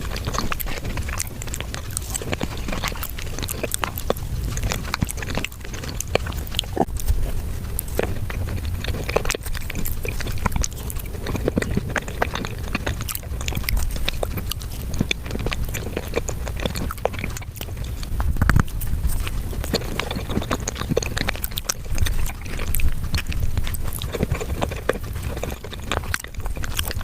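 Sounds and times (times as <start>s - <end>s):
sped-up chewing and mouth noises: 0.0s - 27.0s.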